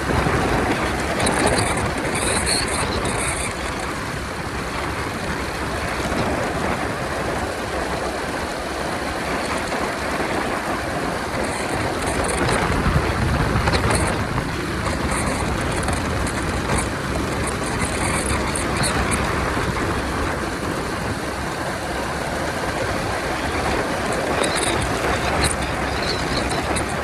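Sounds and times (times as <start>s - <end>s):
motorcycle engine and road noise: 0.0s - 27.0s
wind rushing over microphone: 0.0s - 27.0s.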